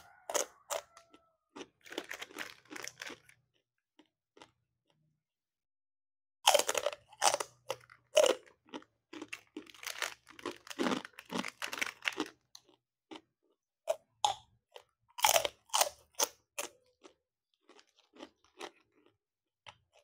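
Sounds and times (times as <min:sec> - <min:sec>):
crunchy chewing: 0:00.0 - 0:05.0, 0:06.5 - 0:20.0
crisp crackers crunching: 0:00.1 - 0:04.6, 0:06.5 - 0:13.6, 0:14.3 - 0:20.0.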